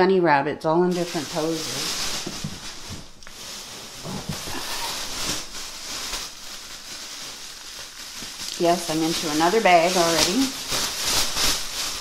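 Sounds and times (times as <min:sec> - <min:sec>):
plastic bag rustling: 0:00.9 - 0:12.0.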